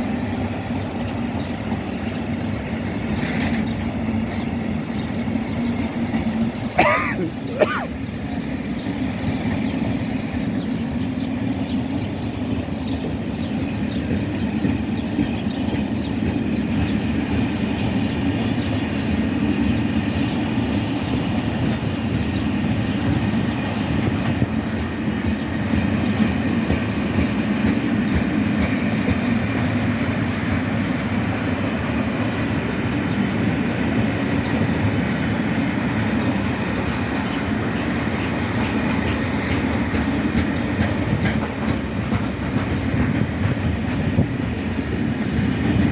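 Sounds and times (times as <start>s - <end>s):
freight train wheels rumbling on rails: 0.0s - 45.9s.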